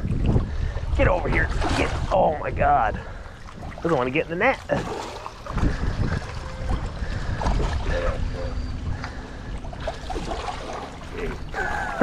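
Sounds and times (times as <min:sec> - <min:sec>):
water lapping against rocks: 0:00.0 - 0:12.0
wind rumbling on microphone: 0:00.0 - 0:12.0
fish thrashing and splashing: 0:01.2 - 0:02.2, 0:03.2 - 0:12.0.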